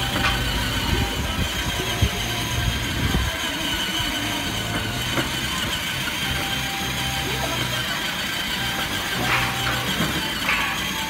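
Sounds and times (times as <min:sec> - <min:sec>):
plastic wheels rumbling on concrete: 0:00.0 - 0:11.0.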